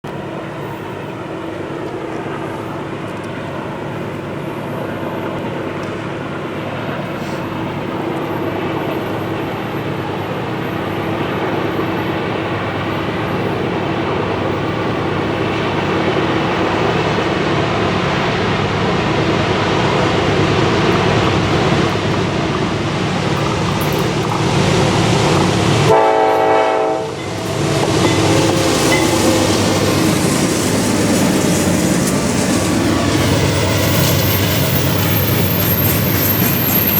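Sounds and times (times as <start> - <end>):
locomotive diesel engines droning: 0.1 - 36.9.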